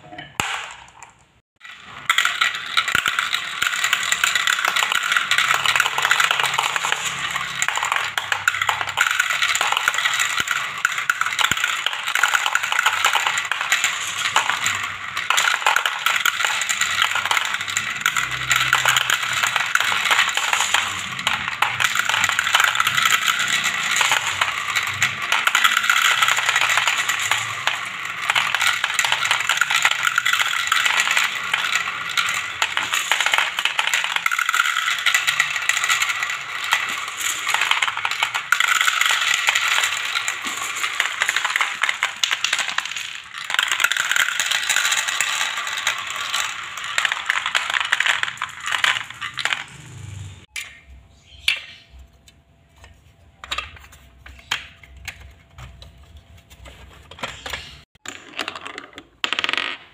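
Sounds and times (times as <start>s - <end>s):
plastic balls clattering in funnel: 0.1s - 59.9s
plastic pieces clicking: 0.2s - 59.9s.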